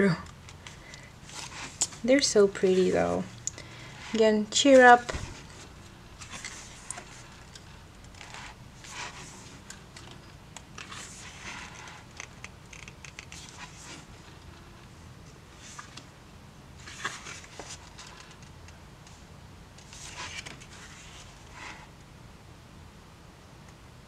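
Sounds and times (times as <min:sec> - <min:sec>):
book pages turning: 0:00.3 - 0:14.8, 0:15.5 - 0:16.1, 0:16.8 - 0:19.2, 0:19.8 - 0:21.9.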